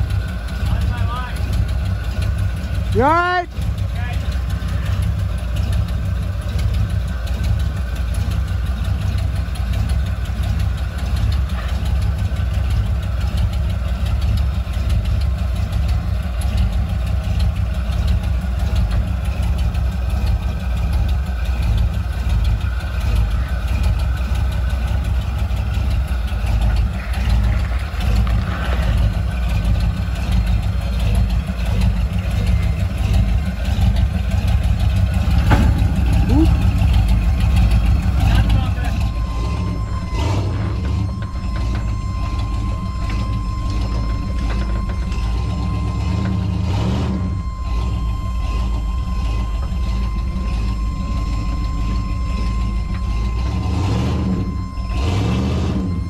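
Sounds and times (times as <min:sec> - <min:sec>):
car engine running at low revs: 0:00.0 - 0:56.0.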